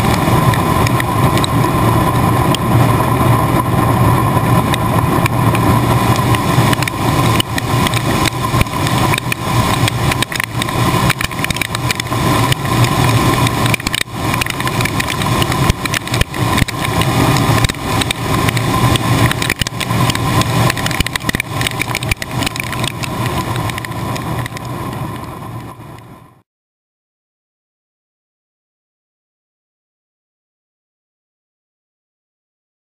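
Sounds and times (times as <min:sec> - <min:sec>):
combine low hum: 0:00.0 - 0:26.4
steady whine: 0:00.0 - 0:26.4.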